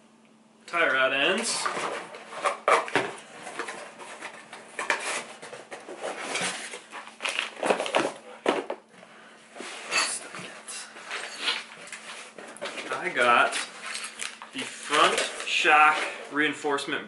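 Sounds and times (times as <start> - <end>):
cardboard boxes rustling: 1.4 - 8.8, 9.5 - 16.2.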